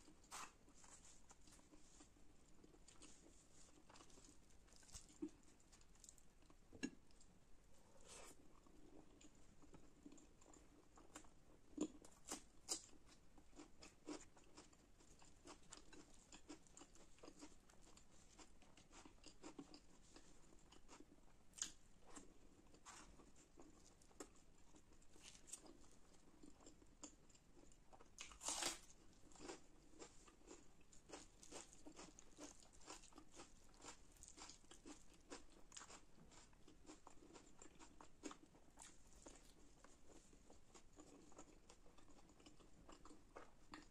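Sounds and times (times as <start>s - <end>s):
chewing and crunching food: 0.0s - 43.9s.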